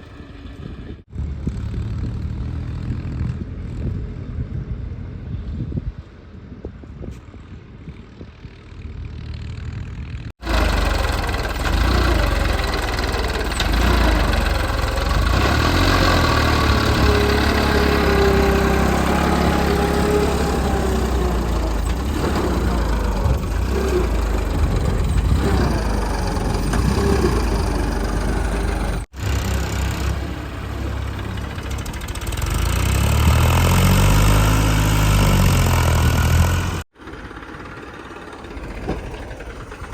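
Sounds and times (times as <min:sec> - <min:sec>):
diesel engine of backhoe loader: 0:00.0 - 0:39.9.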